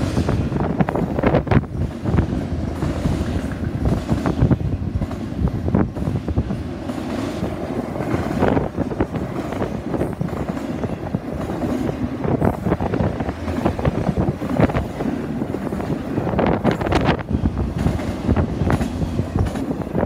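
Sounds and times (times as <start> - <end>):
rumble of steel wheels on rail: 0.0 - 20.0
train cars clanking: 0.0 - 20.0.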